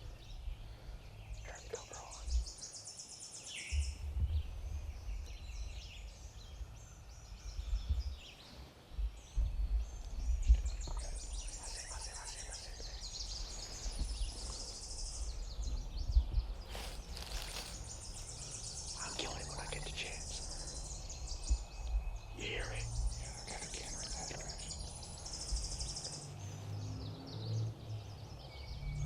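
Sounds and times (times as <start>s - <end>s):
songbirds trilling: 0.0s - 29.0s
low rumble: 3.8s - 8.3s, 8.9s - 29.0s.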